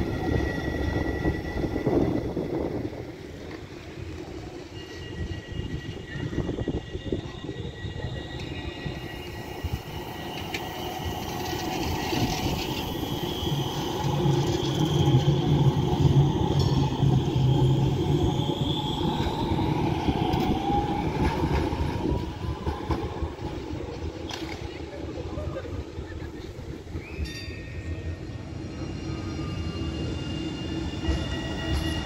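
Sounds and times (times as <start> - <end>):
tram high whine: 0.0 - 32.0
tram wheels rumbling: 0.0 - 32.0.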